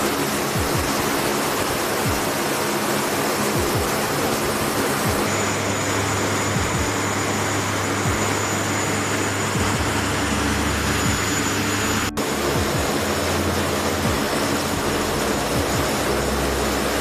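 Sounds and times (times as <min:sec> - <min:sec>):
thin high whine: 0:00.0 - 0:17.0
turboprop engines running: 0:00.0 - 0:17.0.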